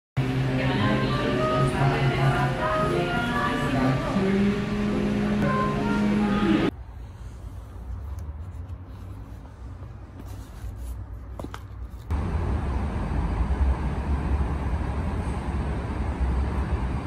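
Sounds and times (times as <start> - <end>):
outdoor traffic noise: 0.2 - 17.0.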